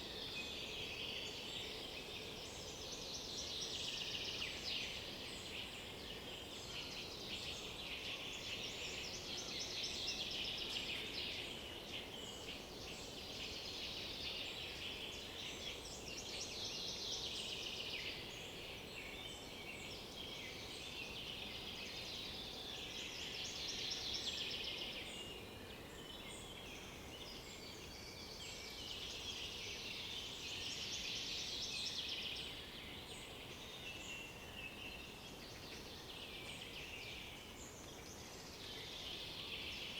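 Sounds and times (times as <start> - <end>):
faint forest background: 0.0 - 39.9.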